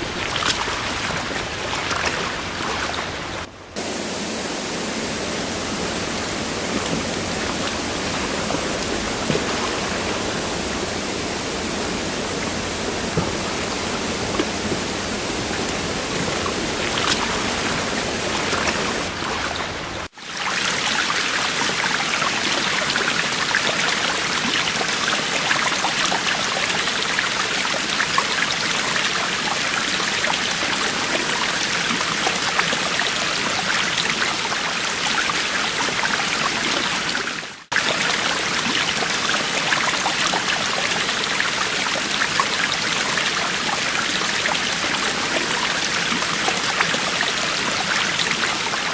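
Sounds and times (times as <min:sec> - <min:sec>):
stream water rushing and splashing: 0:00.0 - 0:48.9.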